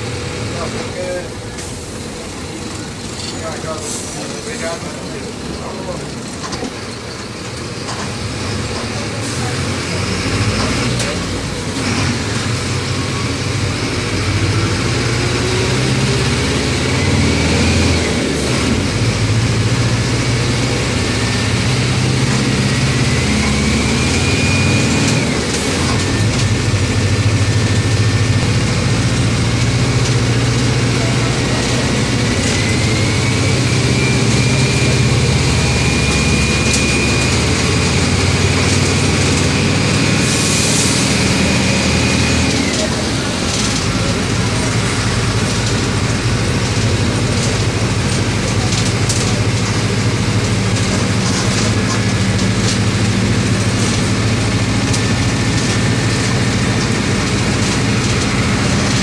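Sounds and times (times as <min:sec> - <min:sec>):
bus diesel engine under load: 0:00.0 - 0:59.0.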